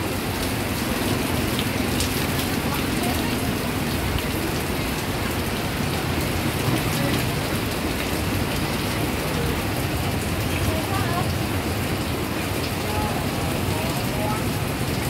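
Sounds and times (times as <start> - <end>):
heavy rain pouring: 0.0 - 15.0
raindrops ticking: 0.0 - 15.0.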